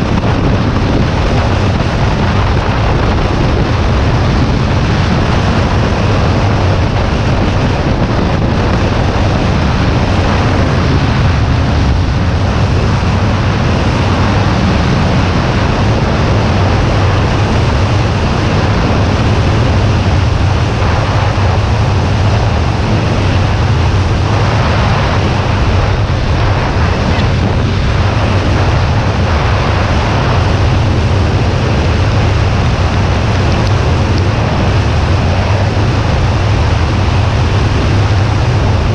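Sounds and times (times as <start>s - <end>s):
motorcycle engine droning: 0.0s - 38.9s
wind rushing over microphone: 0.0s - 38.9s.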